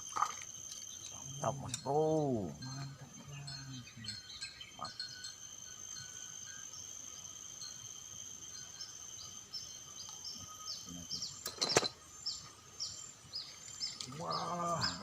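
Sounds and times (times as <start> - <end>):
insects buzzing: 0.0 - 15.0
bird chirping: 0.7 - 15.0.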